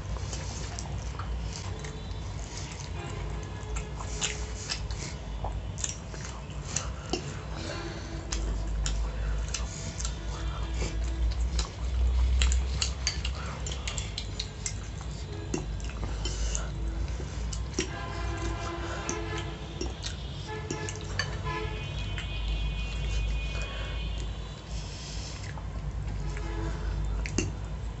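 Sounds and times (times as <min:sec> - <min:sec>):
chewing and mouth sounds: 0:00.0 - 0:28.0.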